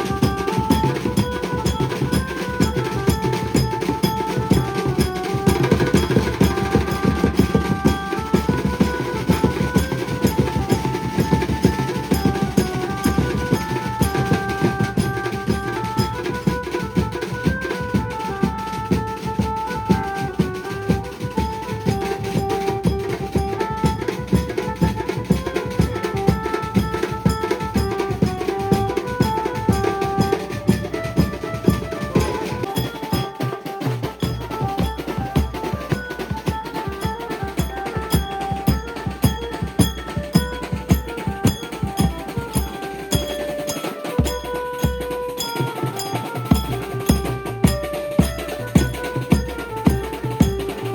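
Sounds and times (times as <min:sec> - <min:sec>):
band melody of held notes: 0:00.0 - 0:50.9
fast dense drumming: 0:00.0 - 0:50.9.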